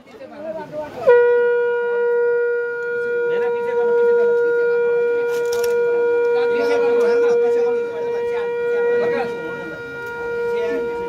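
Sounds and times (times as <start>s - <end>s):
conch shell blown: 0.8s - 11.0s.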